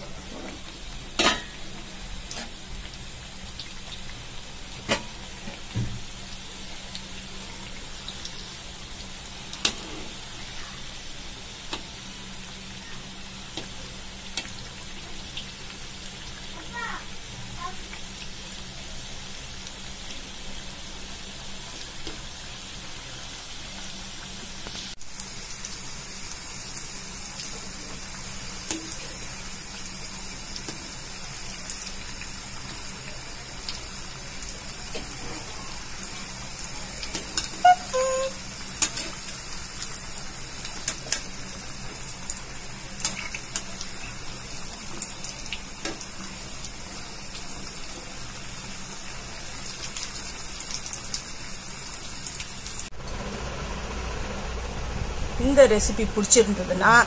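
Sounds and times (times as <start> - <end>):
food deep-frying in oil: 0.0 - 57.0.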